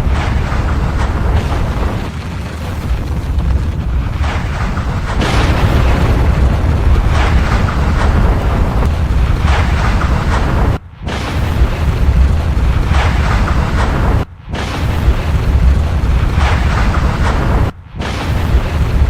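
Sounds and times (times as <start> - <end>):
eruption blasts: 0.0 - 19.0
volcanic eruption rumble: 0.0 - 19.0.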